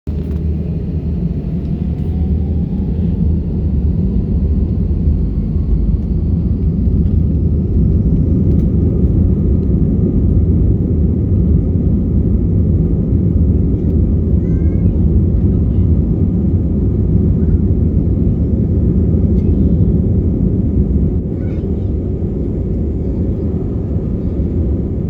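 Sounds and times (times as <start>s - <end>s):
airliner engines rumbling: 0.1s - 25.0s
faint engine whine: 0.1s - 25.0s.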